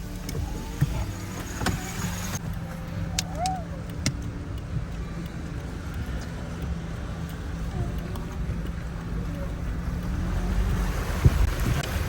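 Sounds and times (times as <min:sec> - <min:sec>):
low rumble inside car: 0:00.0 - 0:12.0
sharp clicks: 0:00.0 - 0:12.0.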